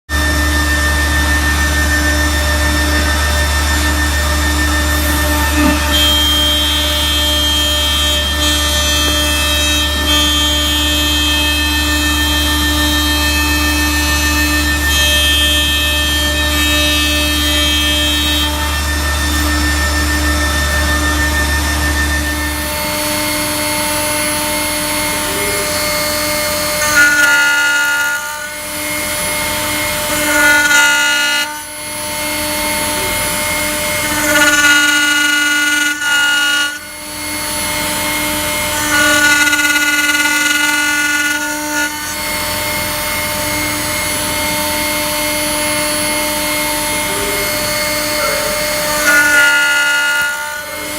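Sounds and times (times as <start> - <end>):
cnc router whine: 0.1 - 50.9.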